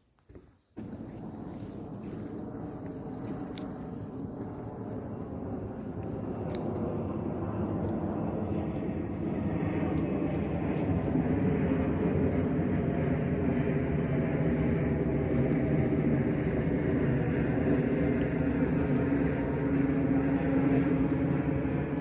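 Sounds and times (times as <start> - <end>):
low rumbling noise: 0.6 - 22.0
faint droning tone: 0.8 - 22.0.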